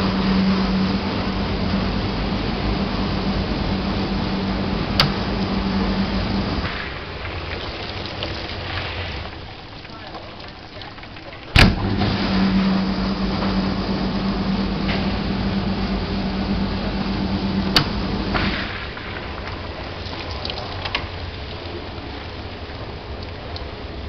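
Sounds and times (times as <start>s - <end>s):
dishwasher pump hum: 0.0s - 24.0s
spraying water: 0.0s - 24.0s.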